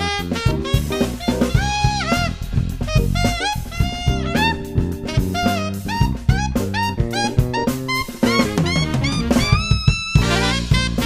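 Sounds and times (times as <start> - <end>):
jazz band playing: 0.0 - 11.0
saxophone melody: 0.0 - 11.0
walking bass: 0.0 - 11.0
drum hits: 0.4 - 11.0.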